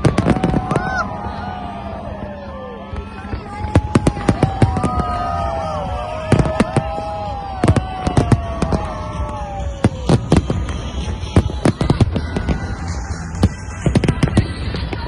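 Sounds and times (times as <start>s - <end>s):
fireworks banging: 0.0s - 15.0s
fireworks whistling: 0.0s - 15.0s.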